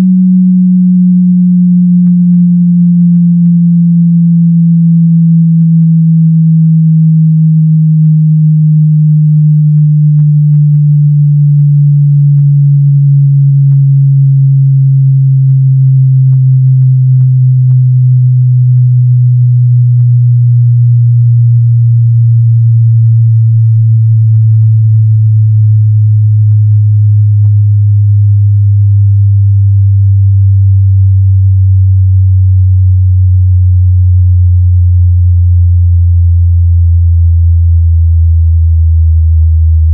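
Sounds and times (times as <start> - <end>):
low sine tone gliding down: 0.0 - 39.9.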